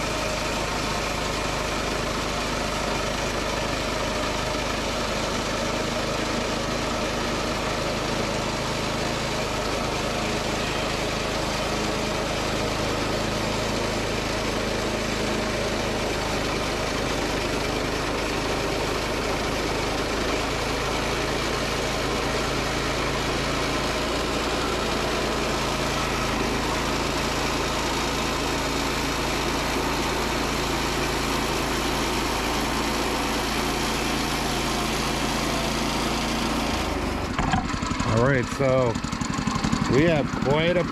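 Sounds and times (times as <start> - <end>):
bandsaw sawing through log: 0.0 - 40.9
sawmill engine running: 0.0 - 40.9.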